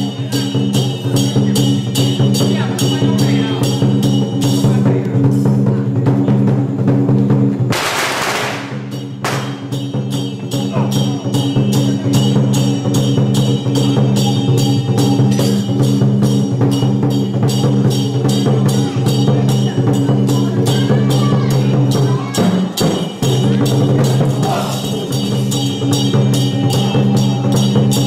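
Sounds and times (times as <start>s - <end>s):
drum gongs and cymbals beating: 0.0s - 28.0s.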